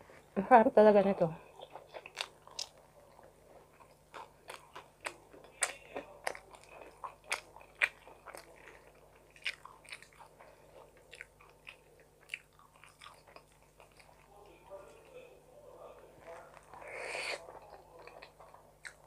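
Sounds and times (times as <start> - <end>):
chewing pizza with crunchy clicks: 1.5 - 15.2, 16.2 - 19.0.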